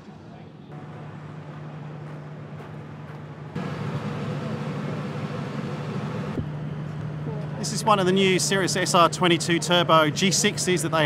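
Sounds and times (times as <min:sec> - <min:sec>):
outdoor background noise: 0:00.0 - 0:11.0
low machine hum: 0:00.6 - 0:11.0.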